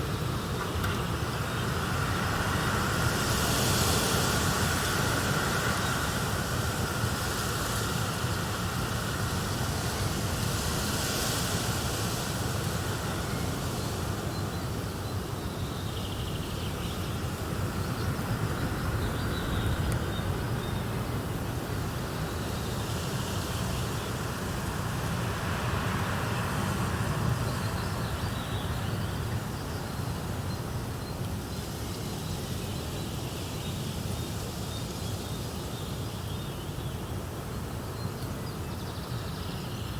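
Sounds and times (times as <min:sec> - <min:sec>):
nature ambience: 0:00.0 - 0:39.9.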